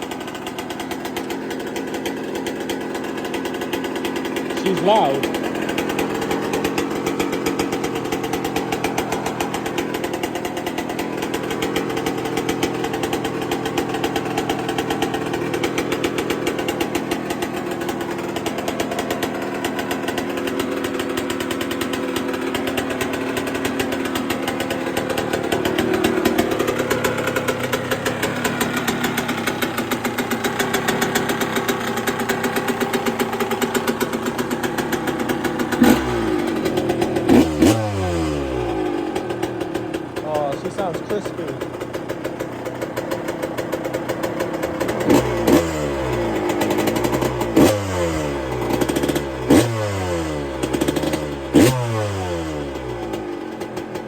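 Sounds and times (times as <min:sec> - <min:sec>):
two-stroke engine running: 0:00.0 - 0:54.0.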